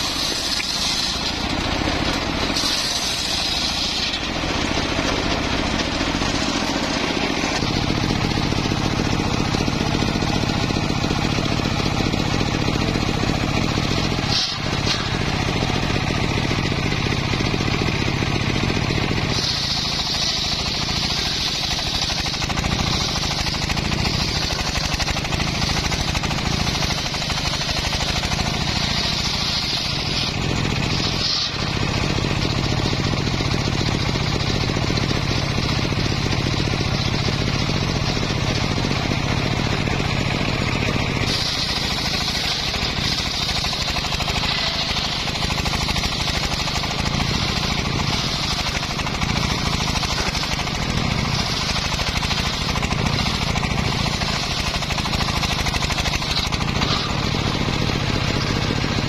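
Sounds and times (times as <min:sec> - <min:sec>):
circular saw motor and blade: 0:00.0 - 0:59.0.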